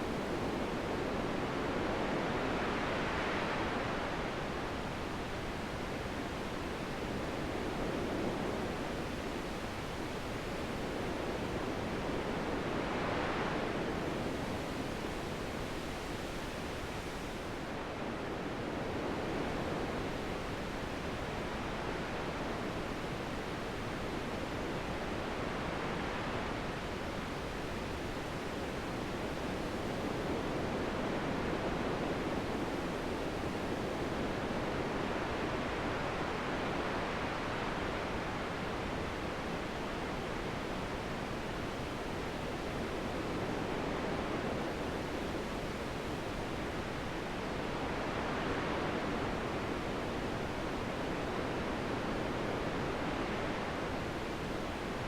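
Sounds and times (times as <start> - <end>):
wind blowing in gusts: 0.0 - 55.0.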